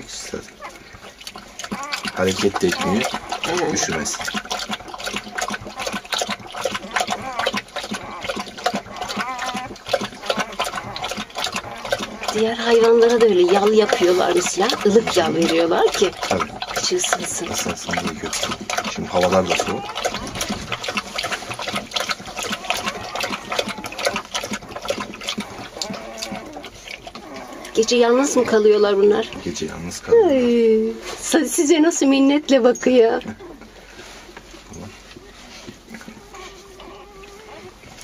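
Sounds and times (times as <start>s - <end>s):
dog lapping from bowl: 0.0s - 38.0s.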